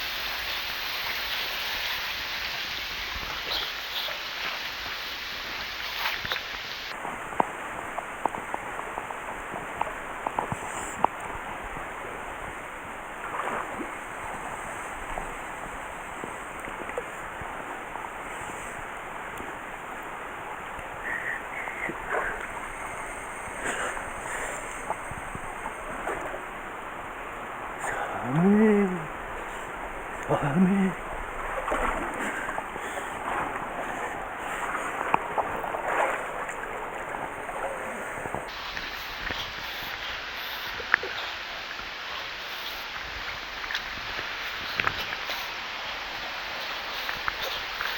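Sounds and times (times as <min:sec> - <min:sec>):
stream rushing: 0:00.0 - 0:47.9.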